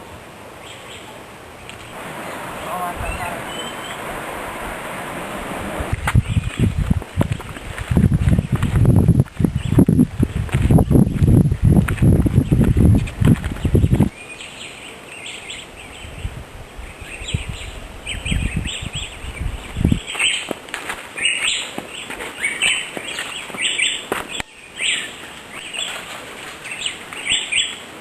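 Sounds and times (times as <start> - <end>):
wild birds chirping: 0.0 - 6.8, 8.3 - 28.0.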